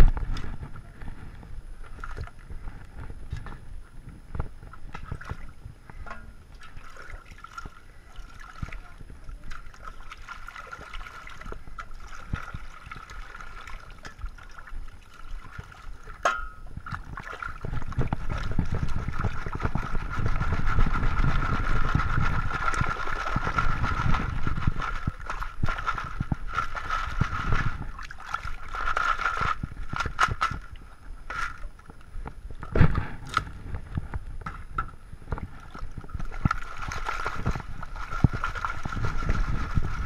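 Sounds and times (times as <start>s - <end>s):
muddy water sloshing and splashing: 0.0s - 40.0s.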